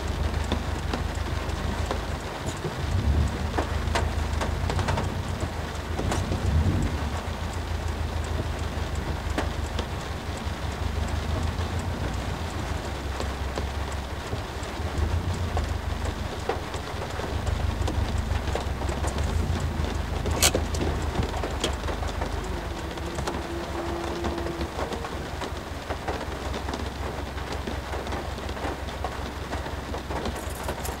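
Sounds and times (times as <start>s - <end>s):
heavy rain on car roof: 0.0s - 31.0s.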